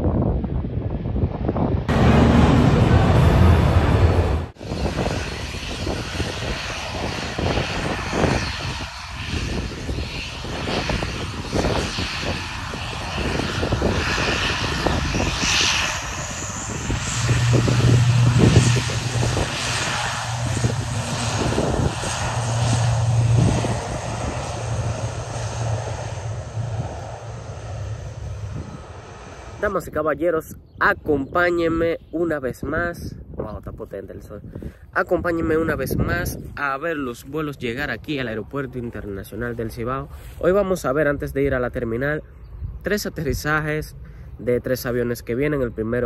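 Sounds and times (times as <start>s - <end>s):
jet engines rushing: 0.0s - 31.9s, 33.7s - 46.0s.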